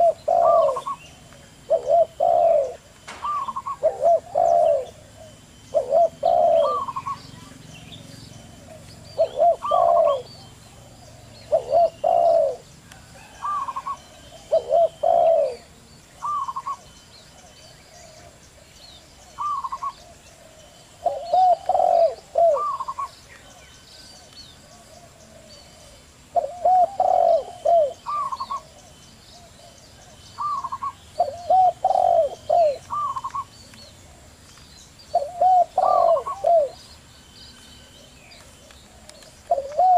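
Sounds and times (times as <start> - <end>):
doves cooing: 0.0 - 39.9
faint high bird chirps: 0.0 - 39.9.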